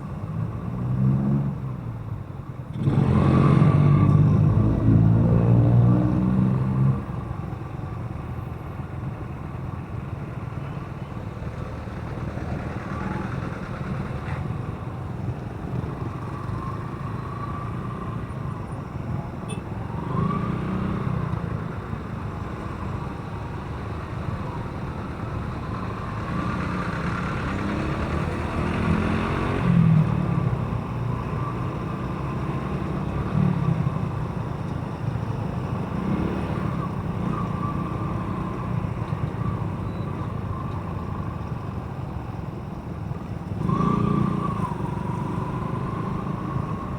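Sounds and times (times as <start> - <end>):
passing traffic: 0.0 - 46.9
road noise: 0.0 - 46.9.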